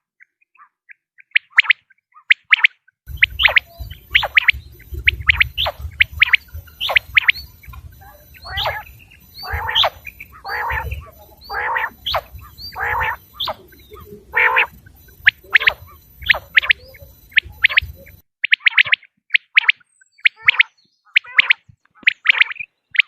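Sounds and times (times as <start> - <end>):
quail calling: 0.6 - 23.0.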